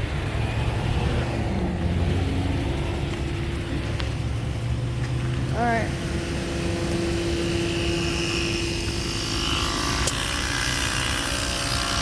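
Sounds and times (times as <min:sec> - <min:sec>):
vehicle passing by: 0:00.0 - 0:10.0
road traffic rumble: 0:00.0 - 0:12.0.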